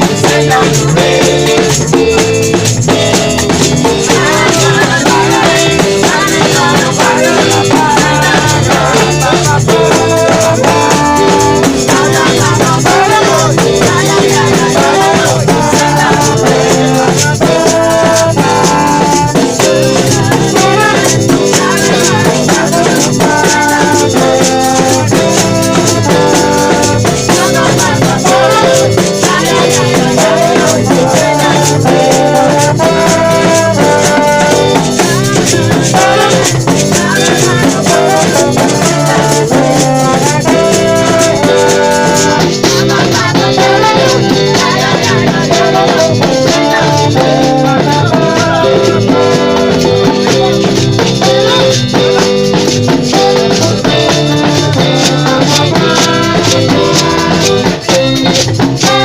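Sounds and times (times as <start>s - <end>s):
drums: 0.0s - 59.0s
held melody notes: 0.0s - 59.0s
steady shaker: 0.0s - 59.0s.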